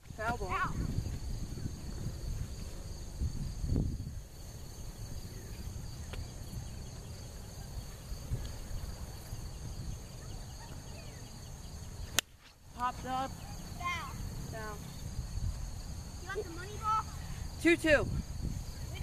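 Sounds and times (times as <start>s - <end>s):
wind rumble on microphone: 0.0s - 12.0s, 13.3s - 19.0s.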